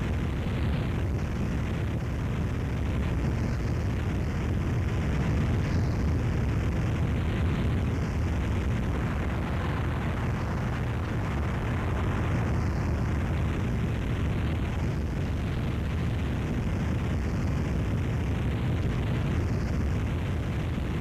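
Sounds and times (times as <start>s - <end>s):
dense static noise: 0.0s - 21.0s.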